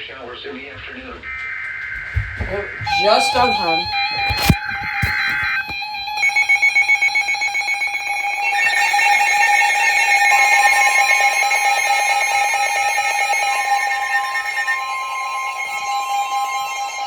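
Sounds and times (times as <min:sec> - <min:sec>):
steady alarm tones: 0:00.2 - 0:17.0
high steady warning tone: 0:00.9 - 0:17.0.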